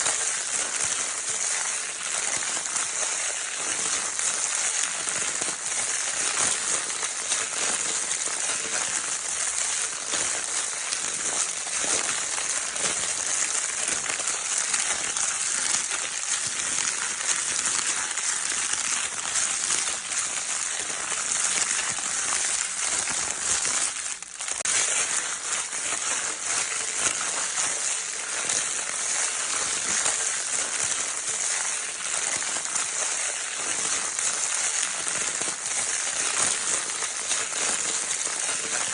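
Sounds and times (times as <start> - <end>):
crinkle paper crackling: 0.0 - 38.9.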